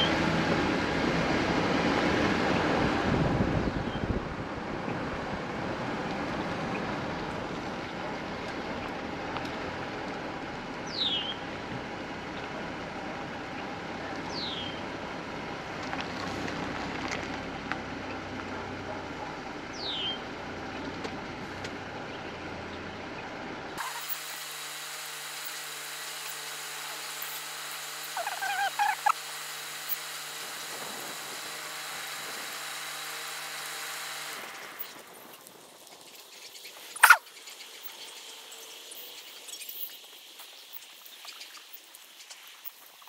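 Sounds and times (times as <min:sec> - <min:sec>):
low motor hum: 0:00.0 - 0:42.0
outdoor hiss and rumble: 0:00.0 - 0:43.0.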